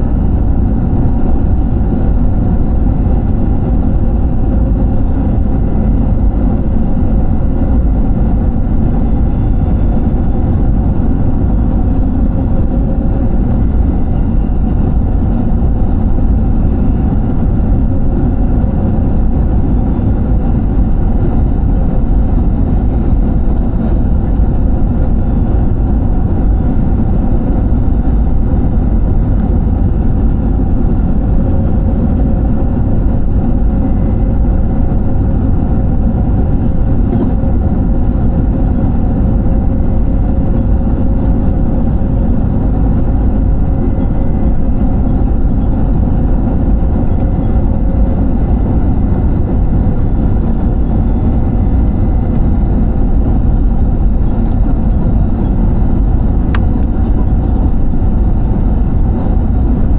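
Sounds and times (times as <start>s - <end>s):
airliner cabin engine drone: 0.0s - 59.9s.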